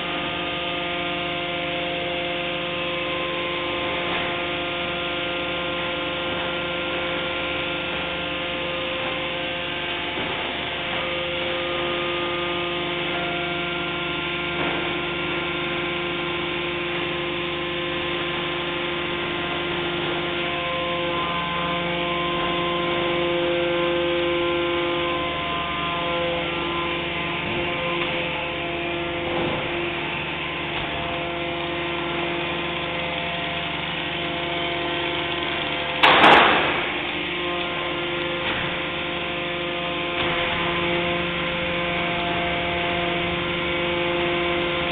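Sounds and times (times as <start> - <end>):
sorting machinery humming: 0.0 - 44.9.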